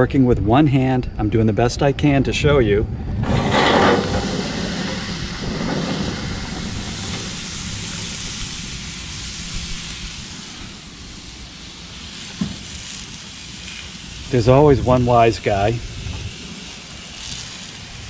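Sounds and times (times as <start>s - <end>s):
gas grill burners hissing: 0.0s - 18.0s.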